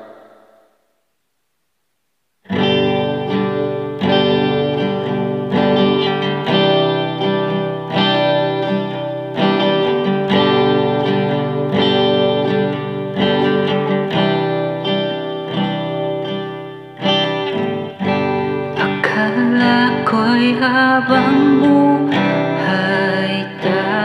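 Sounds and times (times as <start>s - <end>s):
acoustic guitar strumming chords: 2.4s - 24.0s.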